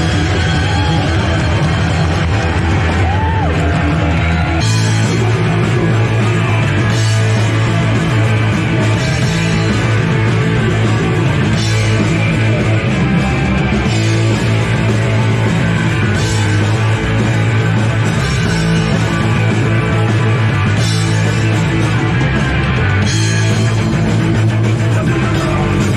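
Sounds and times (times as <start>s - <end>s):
punk rock band playing: 0.0s - 25.9s.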